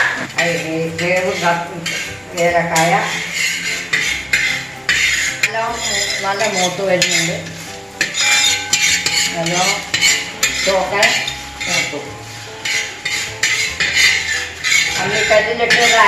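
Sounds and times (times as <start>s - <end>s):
metal spoon scraping a pan: 0.0s - 16.0s.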